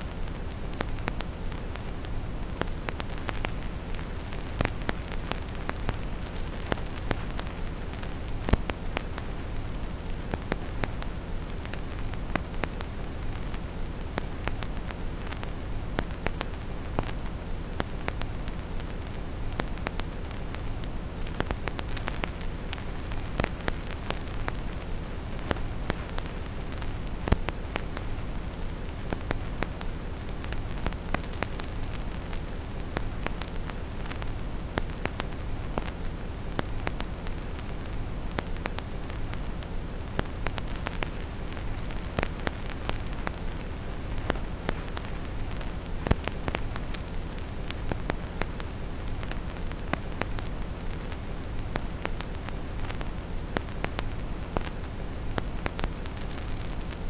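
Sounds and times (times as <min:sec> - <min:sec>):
vinyl record crackle: 0:00.0 - 0:57.0.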